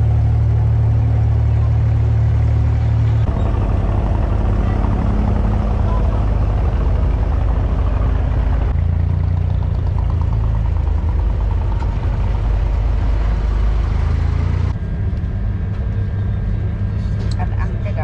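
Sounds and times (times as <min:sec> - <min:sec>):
boat diesel engine running: 0:00.0 - 0:18.0.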